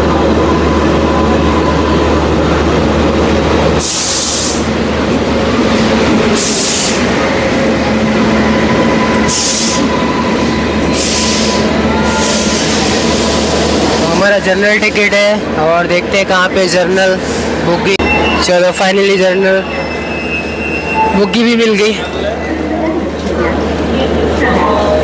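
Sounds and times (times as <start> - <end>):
train low hum: 0.0 - 25.0.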